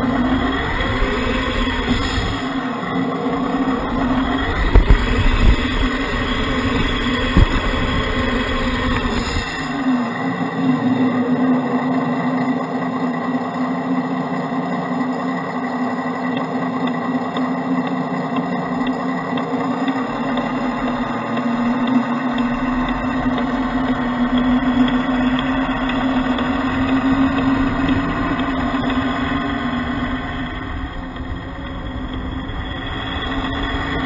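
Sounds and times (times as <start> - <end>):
toy truck motor drone: 0.0 - 34.0.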